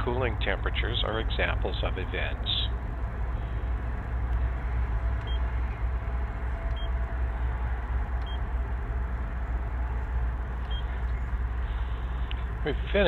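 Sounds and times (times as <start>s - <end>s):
excavator engine rumbling: 0.0s - 13.0s.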